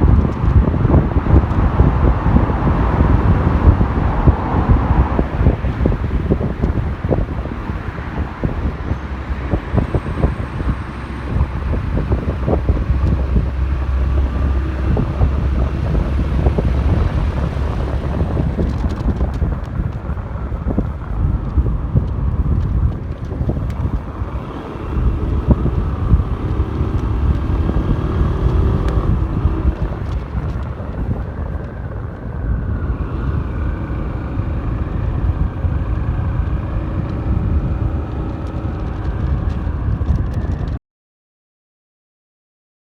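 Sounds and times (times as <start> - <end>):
moving vehicle running noise: 0.0 - 40.8
wind buffeting microphone: 0.0 - 40.8.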